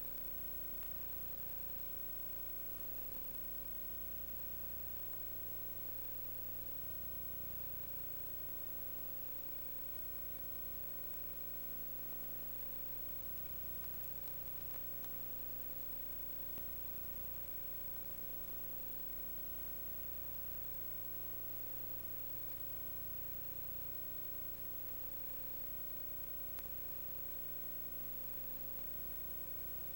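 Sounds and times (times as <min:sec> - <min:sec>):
hum and hiss: 0:00.0 - 0:29.9.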